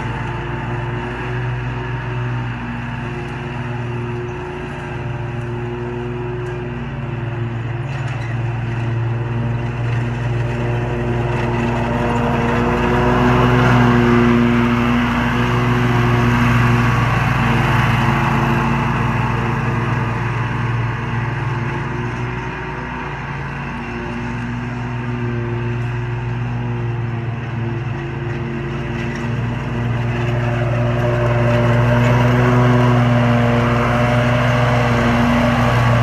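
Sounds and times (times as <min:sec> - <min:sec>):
lawn mower cutting grass: 0:00.0 - 0:36.0.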